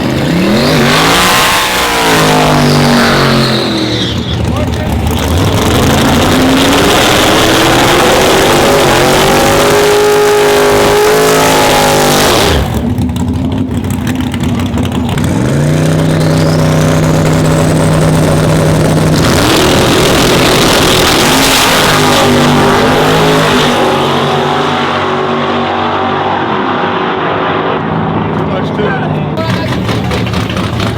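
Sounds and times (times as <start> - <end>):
truck engine revving: 0.0 - 30.9.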